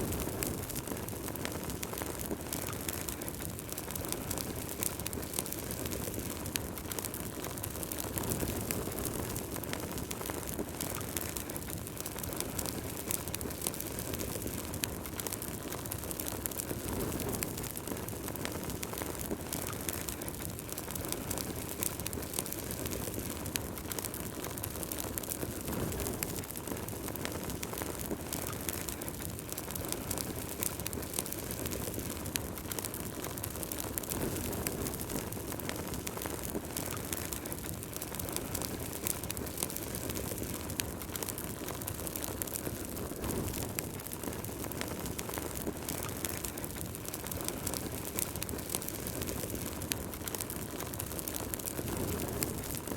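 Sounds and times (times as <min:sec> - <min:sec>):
logs crackling and popping: 0:00.0 - 0:52.9
low rush of flames: 0:00.0 - 0:52.9.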